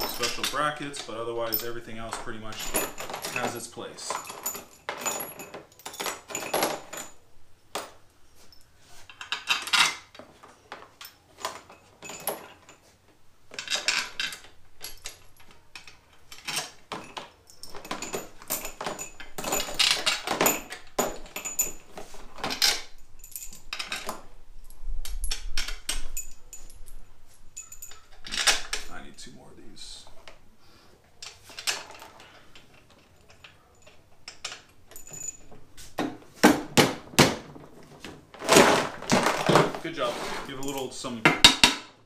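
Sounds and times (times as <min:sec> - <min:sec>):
steel bolts clinking and rattling: 0:00.0 - 0:29.1, 0:31.2 - 0:42.0.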